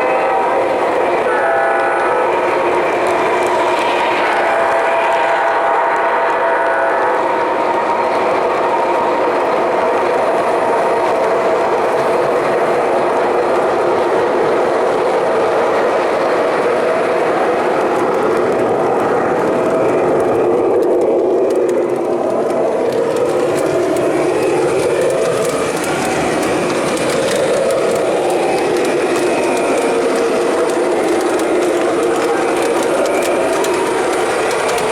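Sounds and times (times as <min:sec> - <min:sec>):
model train rolling on track: 0:00.0 - 0:34.9.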